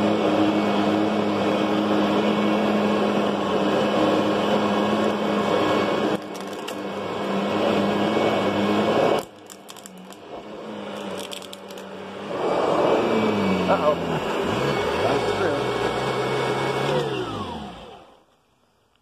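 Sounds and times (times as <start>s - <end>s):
vacuum cleaner motor hum: 0.0s - 18.2s.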